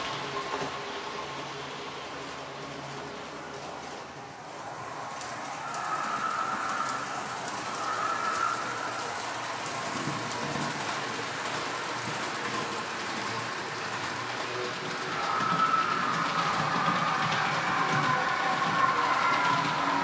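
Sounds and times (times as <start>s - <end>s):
faint motor whine: 0.0s - 20.0s
model train wheels rolling: 0.0s - 20.0s.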